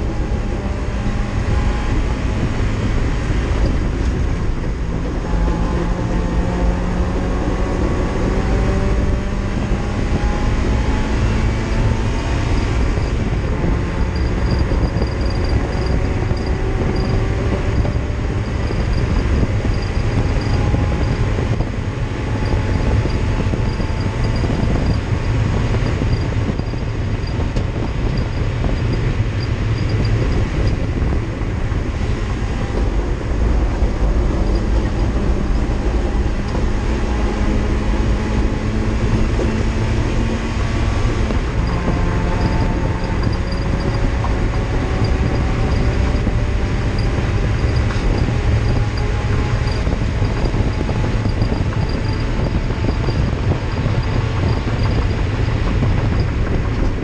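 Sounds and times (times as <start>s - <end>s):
race car engine revving: 0.0s - 57.0s
road and drivetrain noise: 0.0s - 57.0s.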